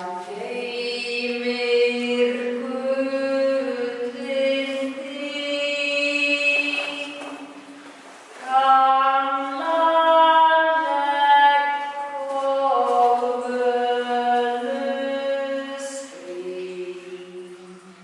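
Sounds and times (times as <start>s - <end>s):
person singing unaccompanied: 0.0s - 7.6s, 8.4s - 18.0s.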